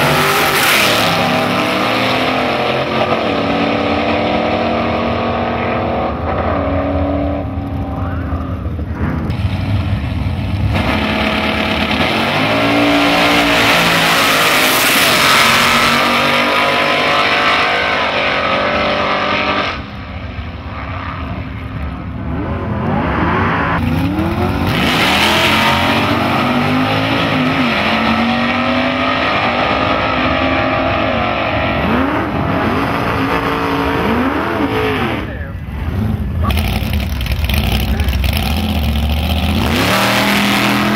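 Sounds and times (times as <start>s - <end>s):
drag car engines at full throttle: 0.0s - 40.9s.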